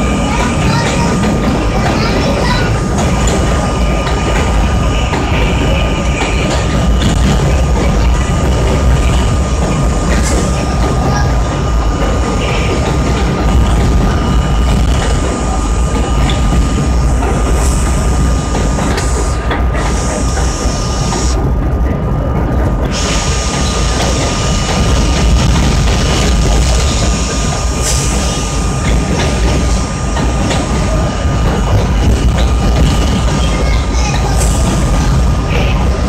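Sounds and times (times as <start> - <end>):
constant train whine: 0.0 - 36.0
subway wheels rumbling on rail: 0.0 - 36.0.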